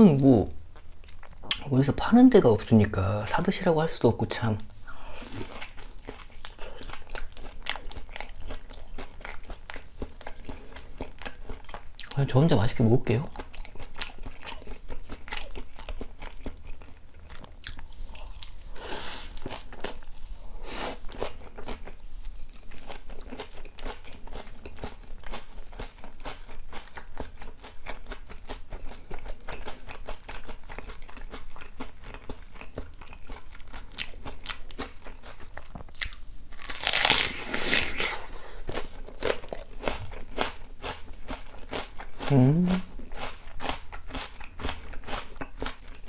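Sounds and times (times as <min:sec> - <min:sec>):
crunchy fried chicken chewing: 0:05.2 - 0:20.2, 0:21.0 - 0:46.0.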